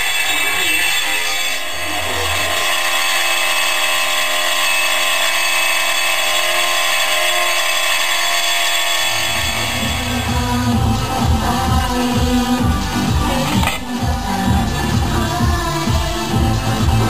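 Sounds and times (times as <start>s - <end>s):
power tool whining: 0.0s - 17.0s.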